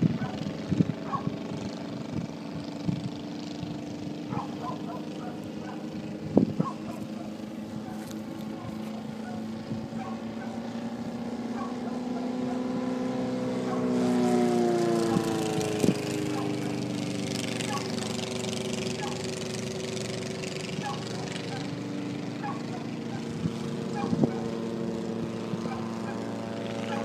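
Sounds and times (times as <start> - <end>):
light aircraft propeller droning: 0.0 - 27.0.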